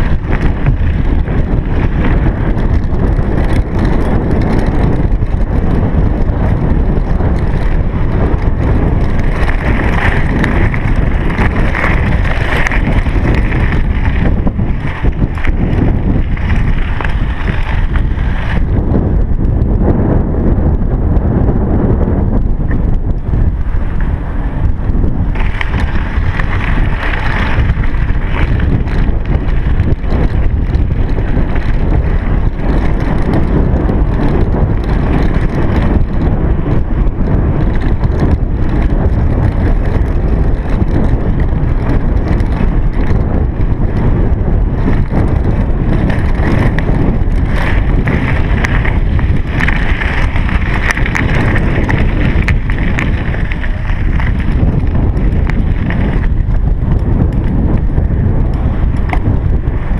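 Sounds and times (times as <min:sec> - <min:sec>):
bicycle tyre noise: 0:00.0 - 0:59.9
bike knocks and rattles: 0:00.0 - 0:59.9
wind rumble on microphone: 0:00.0 - 0:59.9.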